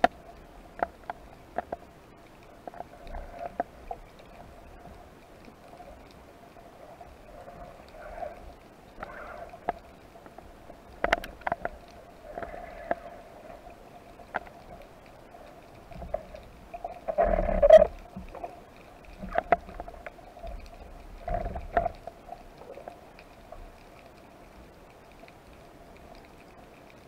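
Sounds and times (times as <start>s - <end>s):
clicks and knocks underwater: 0.0s - 24.2s
steady underwater hum: 0.0s - 27.0s.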